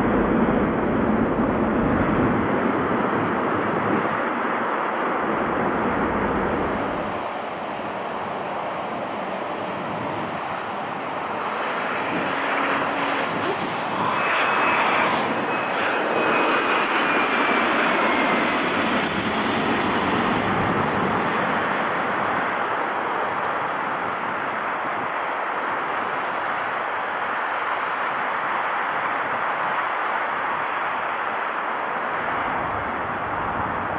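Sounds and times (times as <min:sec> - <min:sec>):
jet airliner engines passing: 0:00.0 - 0:33.9.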